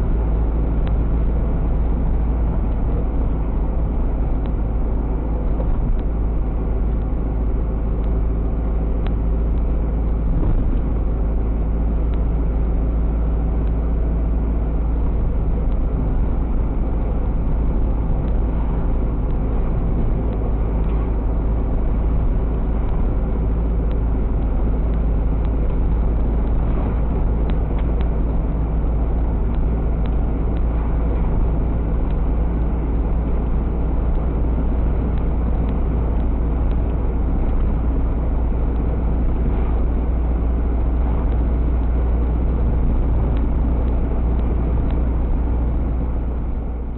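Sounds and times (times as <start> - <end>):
vehicle engine and road rumble: 0.0 - 46.9.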